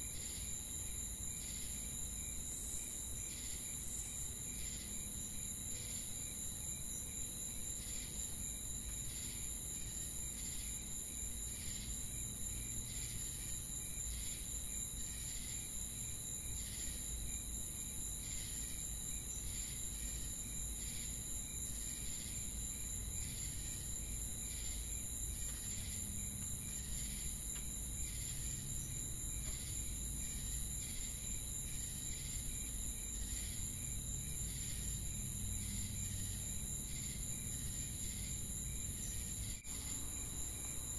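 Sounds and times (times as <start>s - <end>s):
crickets chirping: 0.0s - 40.9s
high-pitched insect trill: 0.0s - 40.9s.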